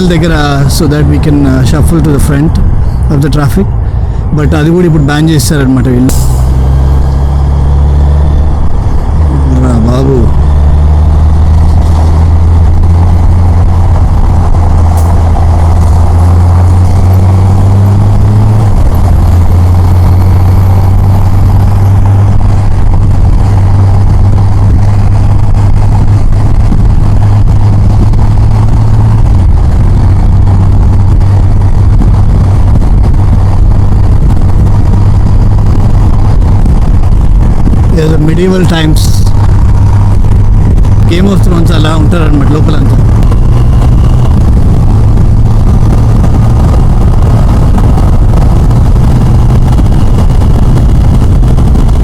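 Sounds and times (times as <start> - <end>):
rushing noise: 0.0 - 52.0
motorcycle engine running: 5.0 - 52.0.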